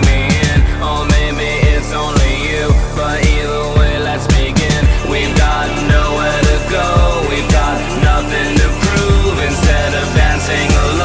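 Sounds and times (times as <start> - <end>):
music with kick-drum beat: 0.0 - 11.0.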